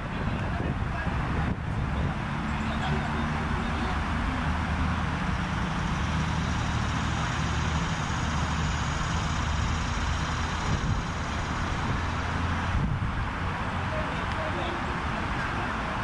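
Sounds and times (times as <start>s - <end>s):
outdoor noise rushing: 0.0s - 16.0s
vehicle engine running: 0.0s - 16.0s.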